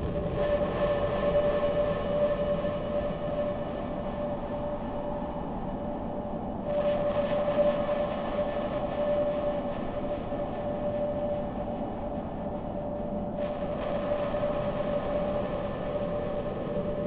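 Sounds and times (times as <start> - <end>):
steady rumbling drone: 0.0 - 17.0.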